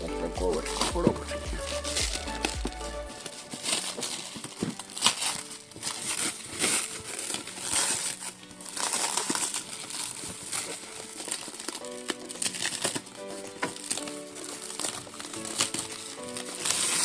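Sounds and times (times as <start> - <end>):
background music: 0.0 - 17.0
packaging crinkling and rustling: 3.1 - 17.0.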